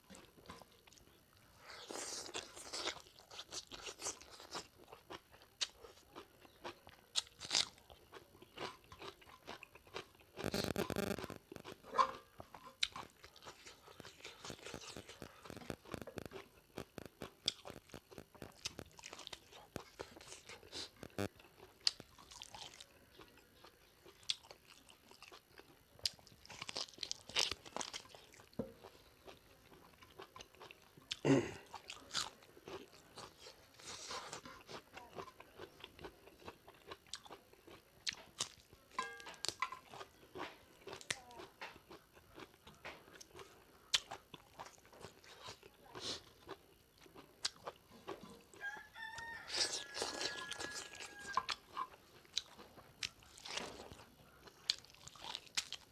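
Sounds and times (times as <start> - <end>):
crunching and chewing: 0.0 - 55.9.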